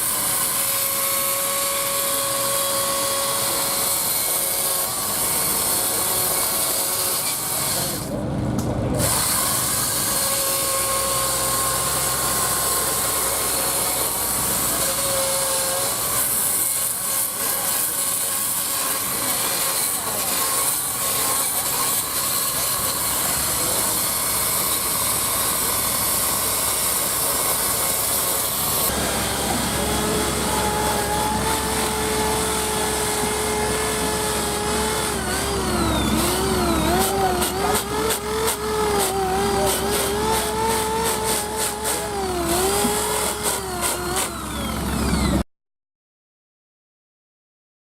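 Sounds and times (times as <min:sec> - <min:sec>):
chainsaw cutting wood: 0:00.0 - 0:08.2, 0:09.0 - 0:45.4.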